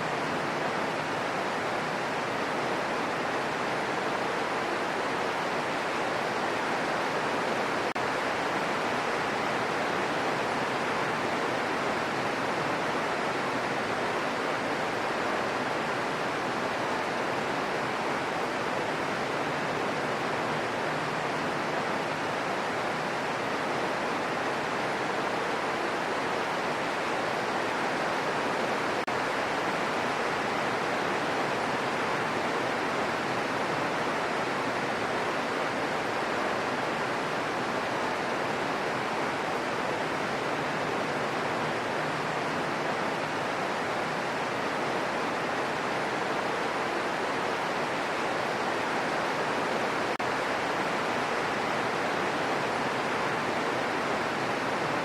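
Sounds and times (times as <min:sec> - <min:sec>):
gentle steady rain: 0:00.0 - 0:55.0.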